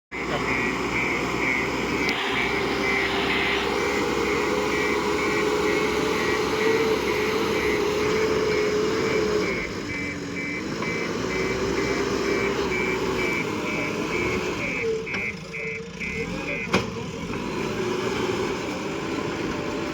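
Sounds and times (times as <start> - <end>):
reversing alarm beeping: 0.1 - 16.9
diesel engine running: 0.1 - 19.9.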